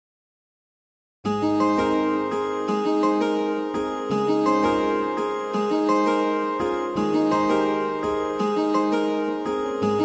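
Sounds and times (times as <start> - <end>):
plucked string instrumental music: 1.3 - 10.0.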